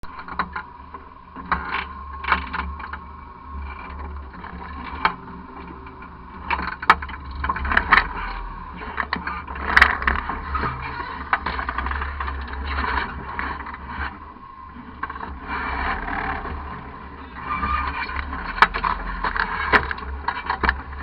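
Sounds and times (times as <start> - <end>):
truck knocks clunks and creaks: 0.0 - 21.0.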